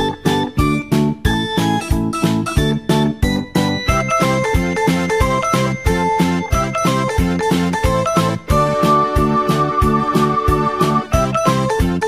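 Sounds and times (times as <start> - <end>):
bright tune over a steady beat: 0.0 - 12.0.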